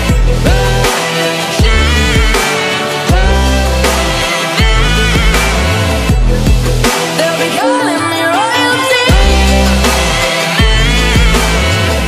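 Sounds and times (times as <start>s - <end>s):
electronic music with synth: 0.0s - 12.0s.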